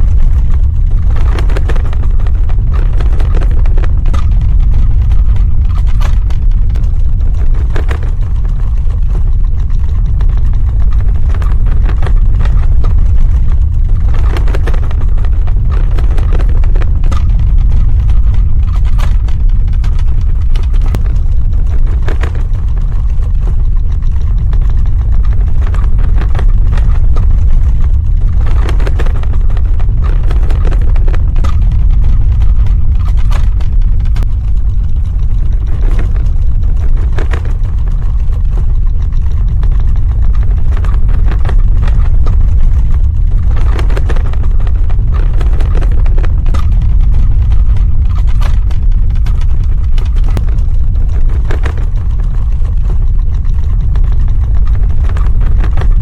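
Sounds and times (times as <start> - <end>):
crackles and rattles: 0.0 - 56.0
deep rumble: 0.0 - 56.0.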